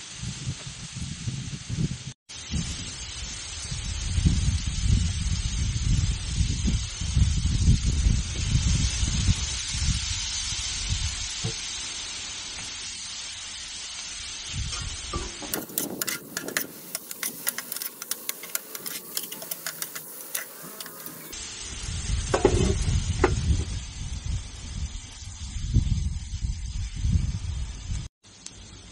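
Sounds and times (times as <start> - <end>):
chicken sizzling on griddle: 0.0 - 28.9
wind on microphone: 0.1 - 11.6, 14.5 - 28.1.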